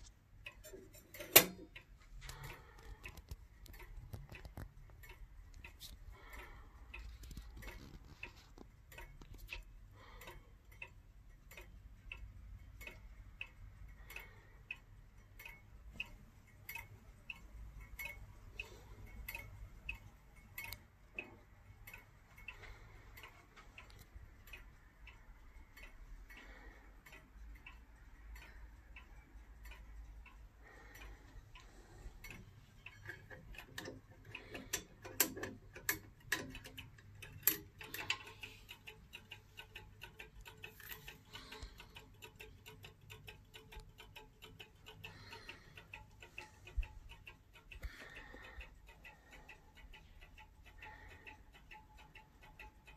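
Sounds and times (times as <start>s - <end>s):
pendulum clock ticking: 0.0s - 52.9s.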